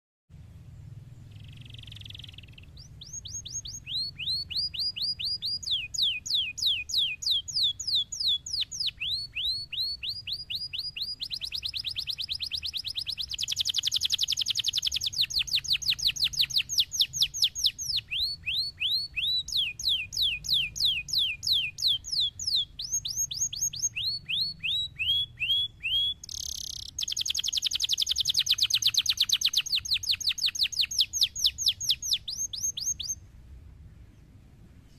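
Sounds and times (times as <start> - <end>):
faint low hum: 0.3 - 34.9
canary singing trills: 1.2 - 33.2.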